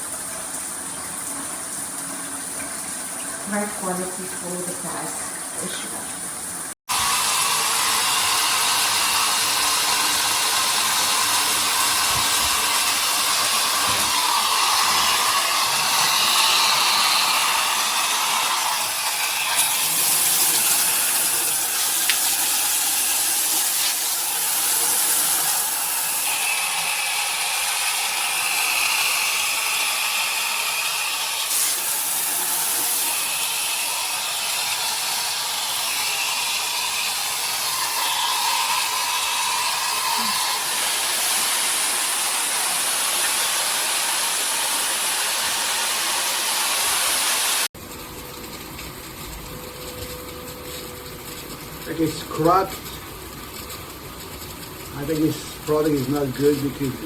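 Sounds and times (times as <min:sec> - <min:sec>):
water spraying from shower head: 0:03.4 - 0:47.7, 0:54.8 - 0:57.0.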